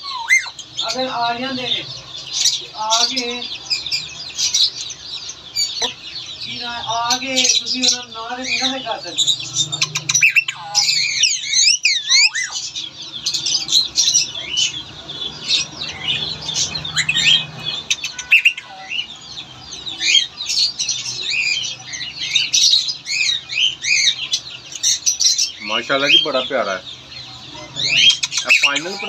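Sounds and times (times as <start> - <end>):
parakeets squawking: 0.0 - 29.0.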